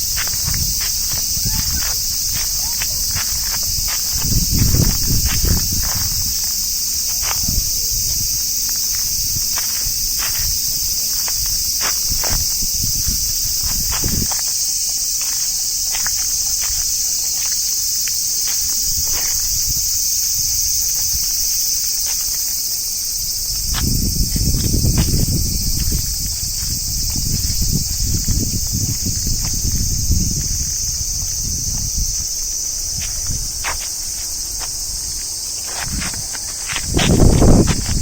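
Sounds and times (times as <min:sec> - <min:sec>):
cicadas singing: 0:00.0 - 0:38.0.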